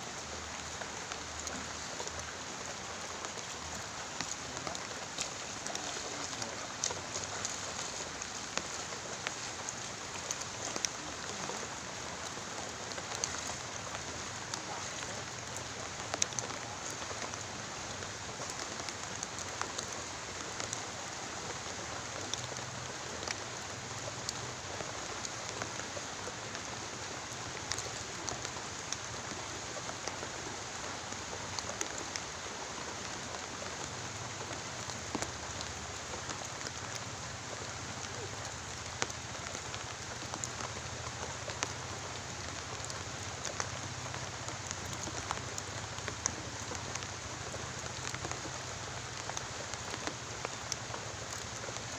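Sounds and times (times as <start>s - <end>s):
raindrops ticking: 0.0s - 51.9s
steady rain falling: 0.0s - 51.9s.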